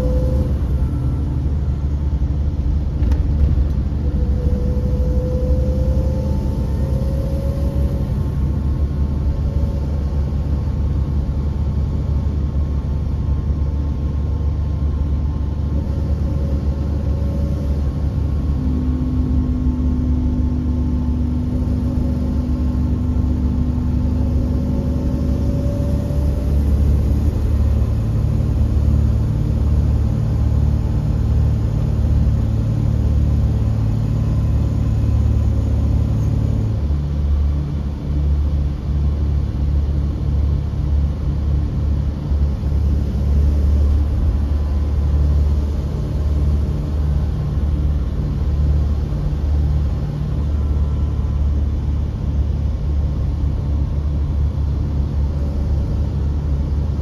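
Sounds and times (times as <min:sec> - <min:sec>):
diesel engine low rumble: 0:00.0 - 0:57.0
faint rising whine: 0:00.0 - 0:57.0
steady hum: 0:00.0 - 0:57.0.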